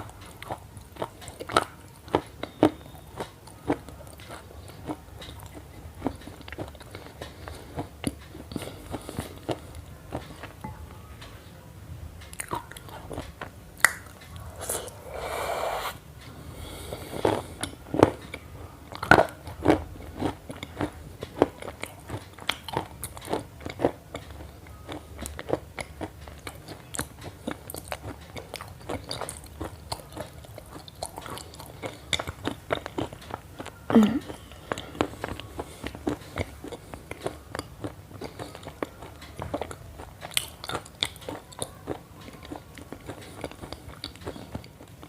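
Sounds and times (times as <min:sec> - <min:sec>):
crunchy chewing: 0:00.0 - 0:10.6, 0:16.6 - 0:45.0.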